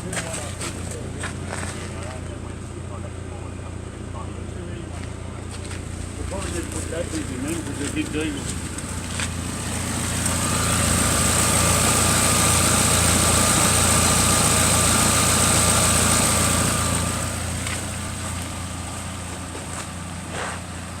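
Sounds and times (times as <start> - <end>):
van engine running: 0.0 - 21.0.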